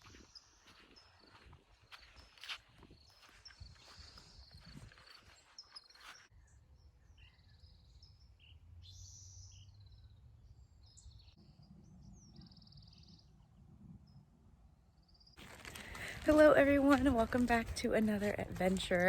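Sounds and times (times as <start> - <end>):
faint songbirds chirping: 0.0 - 19.0.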